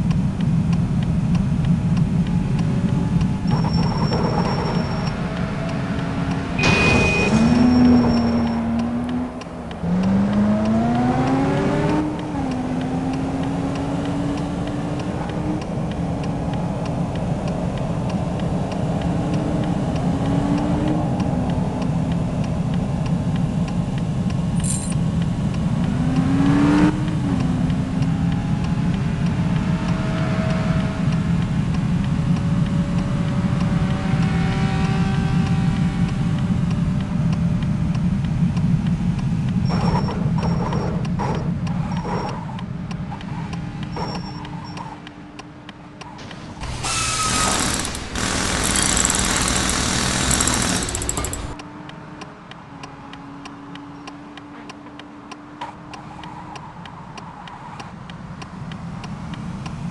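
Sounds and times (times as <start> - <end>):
vehicle engine running: 0.0 - 55.5
road rumble: 0.0 - 59.9.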